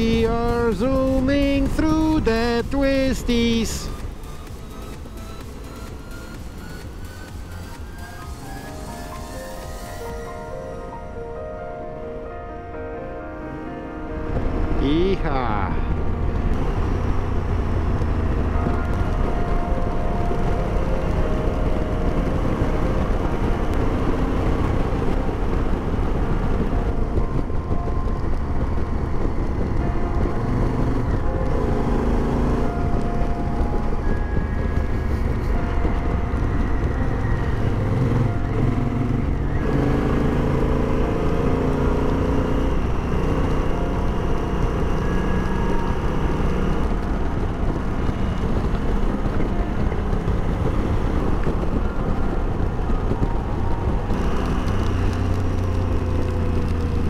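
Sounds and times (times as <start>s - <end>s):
motorcycle engine: 0.0s - 11.2s, 12.8s - 57.0s
wind and road noise: 0.0s - 57.0s.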